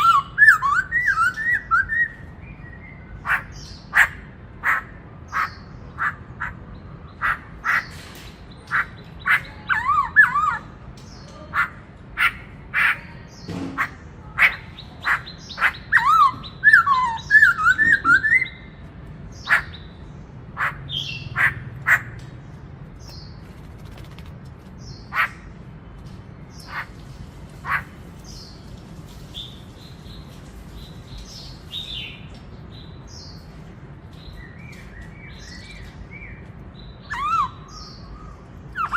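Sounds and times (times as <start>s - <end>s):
bird singing and warbling: 0.0s - 38.9s.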